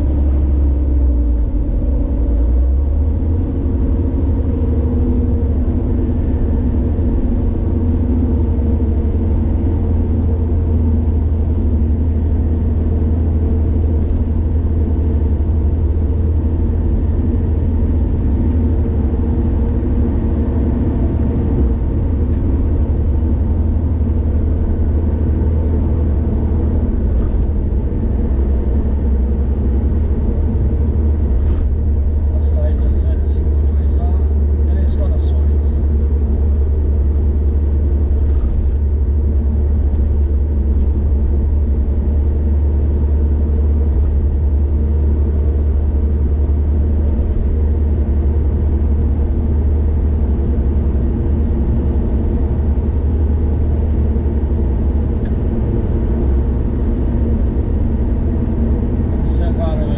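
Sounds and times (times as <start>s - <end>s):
car engine drone: 0.0s - 59.9s
road and tyre rumble: 0.0s - 59.9s.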